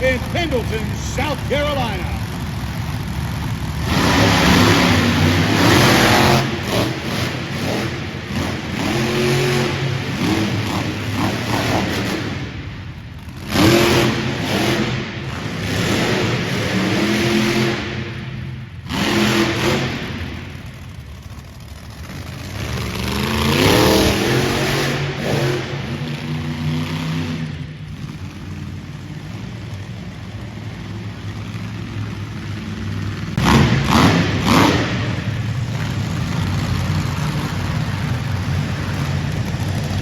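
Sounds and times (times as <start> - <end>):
monster truck engines revving: 0.0 - 40.0.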